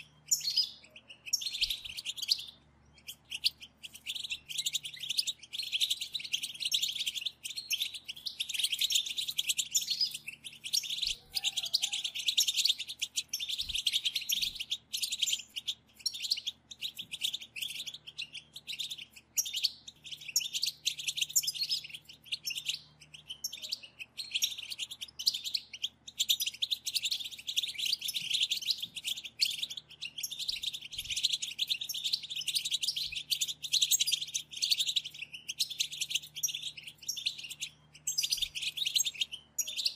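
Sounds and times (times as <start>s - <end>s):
goldfinches twittering chatter: 0.0s - 39.9s.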